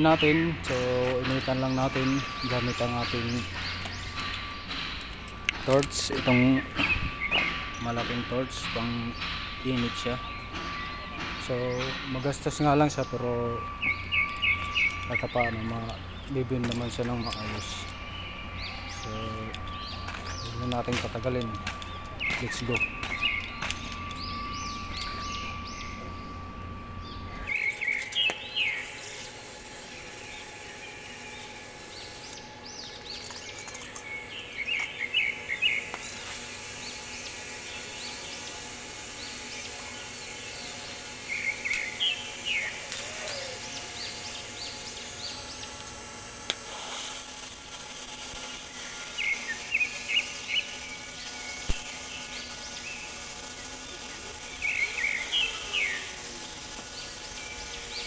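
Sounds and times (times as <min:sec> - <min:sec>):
small birds chirping: 0:00.0 - 0:58.0
steady background hum: 0:00.0 - 0:58.0.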